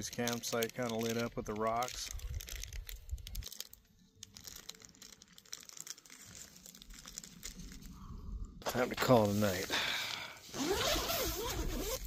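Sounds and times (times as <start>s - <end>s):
faint rustling and crunching: 0.0s - 12.0s.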